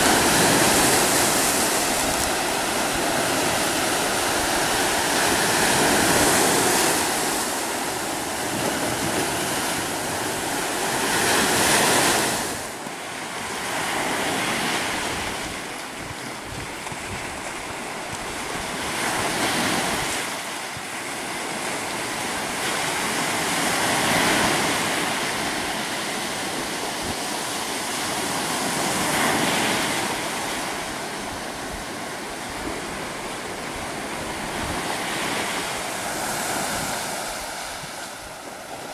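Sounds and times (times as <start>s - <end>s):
surf breaking on shore: 0.0s - 38.9s.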